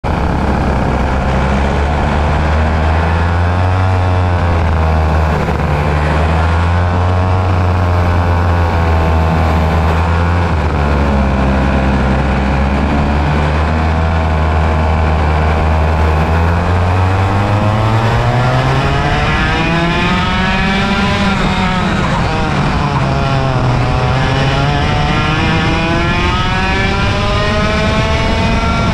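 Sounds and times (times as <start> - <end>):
kart engine running low: 0.0 - 28.9
karts revving: 0.0 - 28.9.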